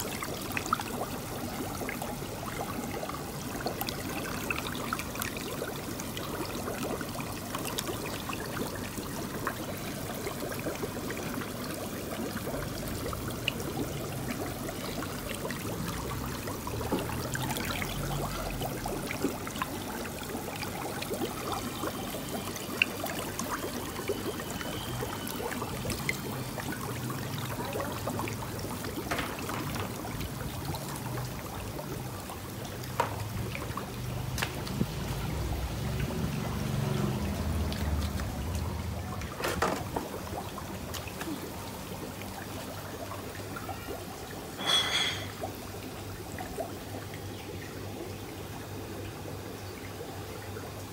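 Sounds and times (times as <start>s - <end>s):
water trickling and splashing: 0.0s - 50.9s.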